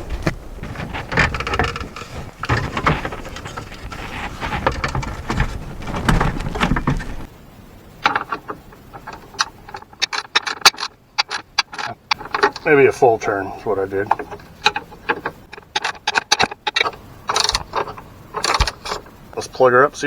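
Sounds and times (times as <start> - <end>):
plastic parts clattering and clicking: 0.2 - 7.3, 8.0 - 19.2.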